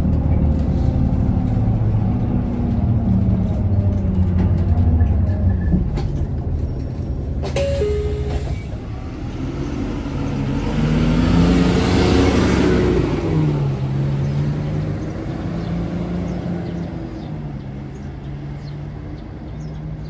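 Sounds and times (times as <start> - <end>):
bus diesel engine running: 0.0 - 18.2.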